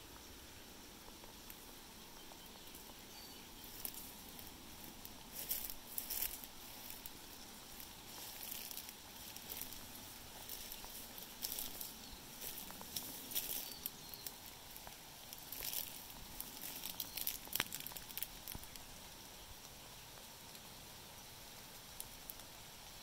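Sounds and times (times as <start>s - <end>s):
faint steady hiss: 0.0s - 23.0s
grass and brush rustling: 0.0s - 23.0s.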